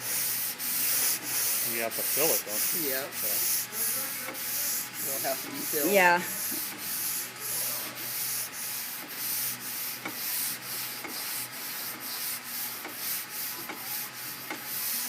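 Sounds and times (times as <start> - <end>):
sandpaper scratching on panel: 0.1 - 15.0.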